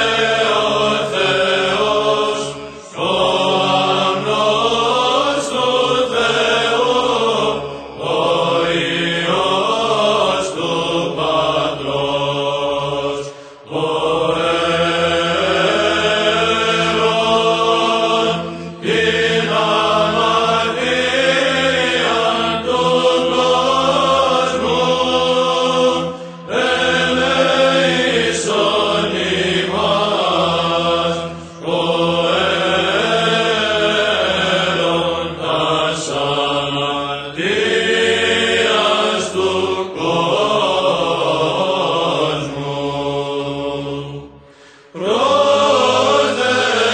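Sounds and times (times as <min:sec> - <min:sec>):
choral chant: 0:00.0 - 0:46.9.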